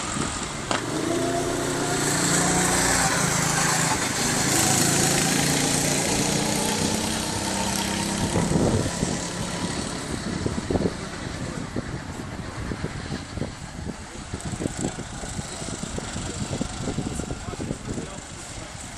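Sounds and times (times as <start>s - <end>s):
go-kart engine running: 0.0s - 18.9s.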